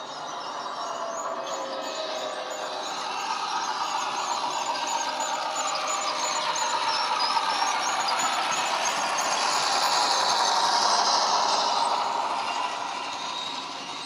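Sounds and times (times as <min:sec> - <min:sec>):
diesel engine through small speaker: 0:00.0 - 0:14.0.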